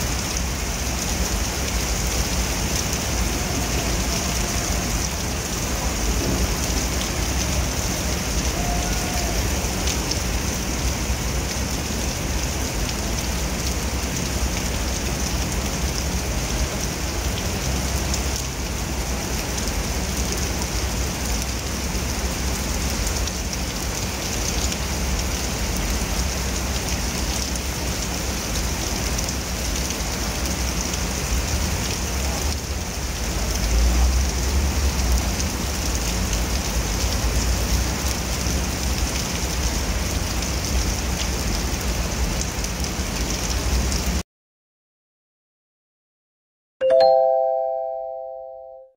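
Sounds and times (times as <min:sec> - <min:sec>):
heavy rain on paving: 0:00.0 - 0:44.2.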